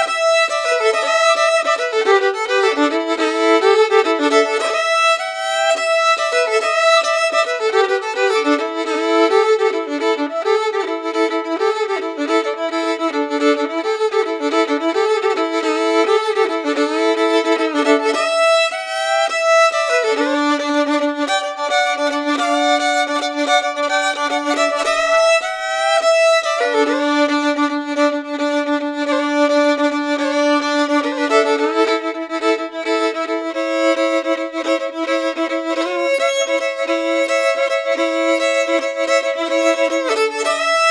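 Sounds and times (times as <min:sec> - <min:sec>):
violin playing sustained notes: 0:00.0 - 0:40.9.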